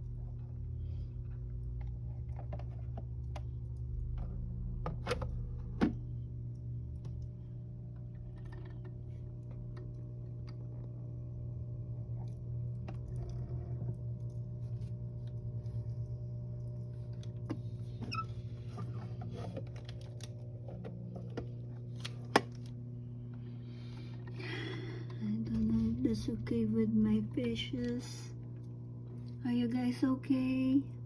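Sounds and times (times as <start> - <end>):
aquarium filter pump humming: 0.0 - 31.0.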